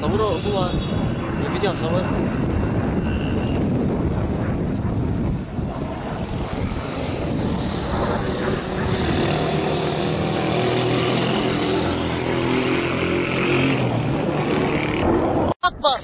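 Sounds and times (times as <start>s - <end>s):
jet engine rushing: 0.0s - 15.6s
high whine: 0.0s - 16.0s.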